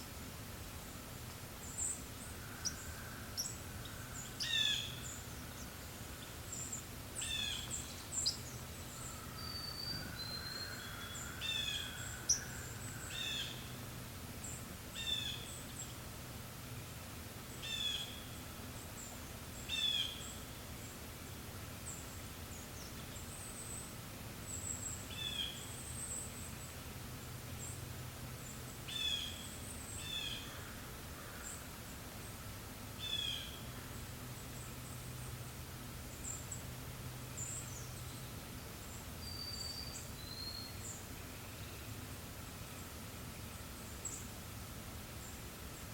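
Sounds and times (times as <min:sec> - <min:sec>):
soft breeze: 0:00.0 - 0:45.9.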